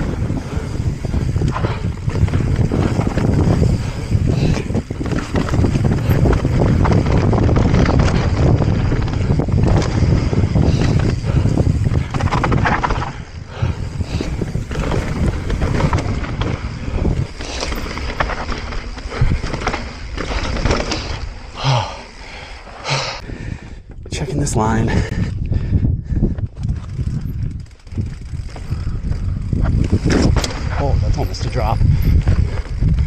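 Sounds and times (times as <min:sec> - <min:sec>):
wind buffeting microphone: 0:00.0 - 0:22.2, 0:23.2 - 0:33.0
bike frame rattling: 0:00.0 - 0:23.2, 0:26.2 - 0:33.0
bike tyres rolling on dirt trail: 0:00.0 - 0:33.0.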